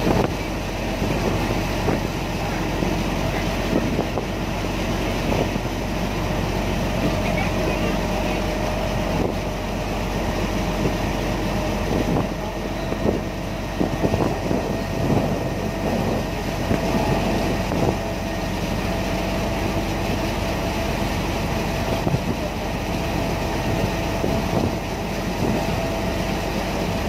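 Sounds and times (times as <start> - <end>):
ferry diesel engine drone: 0.0 - 27.0
steady whine: 0.0 - 27.0.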